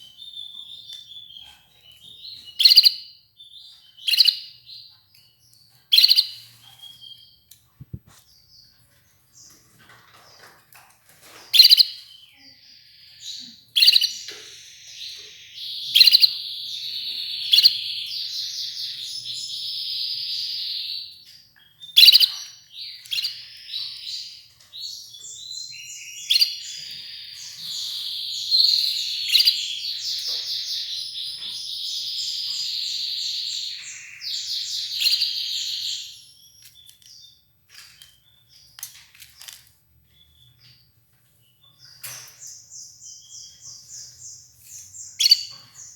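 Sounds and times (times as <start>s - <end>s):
canary singing trills: 0.0s - 10.6s, 11.2s - 45.9s.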